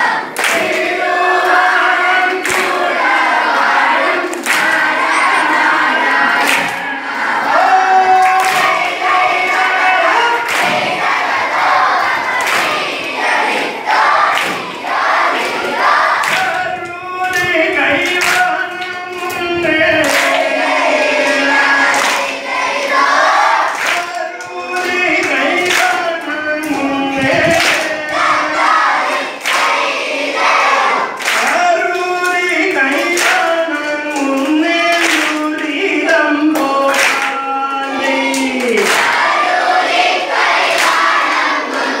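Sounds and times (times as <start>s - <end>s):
group singing in chorus: 0.0s - 42.0s
hand claps keeping time: 0.3s - 6.9s, 7.7s - 28.2s, 29.0s - 29.8s, 31.2s - 39.6s, 40.6s - 41.3s.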